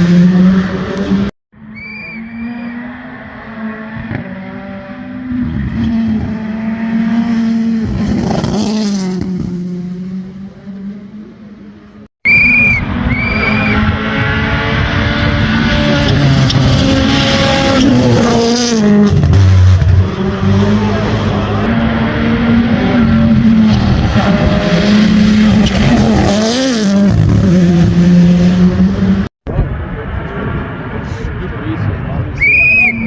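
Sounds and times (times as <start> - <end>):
racing car engine at high revs: 0.0 - 1.3, 2.2 - 12.1, 12.8 - 32.3.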